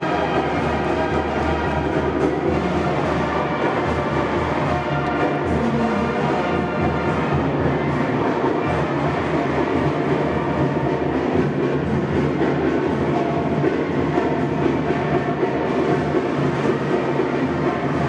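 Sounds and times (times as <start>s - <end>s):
brass band music: 0.0s - 18.0s.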